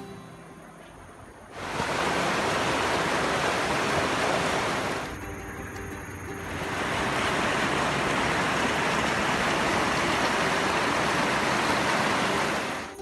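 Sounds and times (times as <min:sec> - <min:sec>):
river rushing over rocks: 0:01.5 - 0:05.4, 0:06.1 - 0:13.0.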